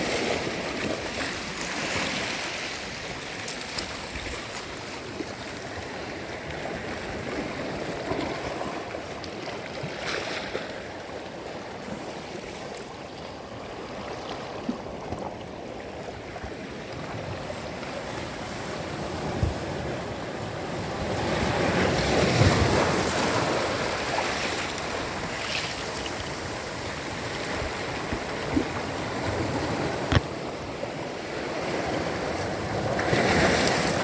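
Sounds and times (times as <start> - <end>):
sea waves washing onto beach: 0.0 - 34.0.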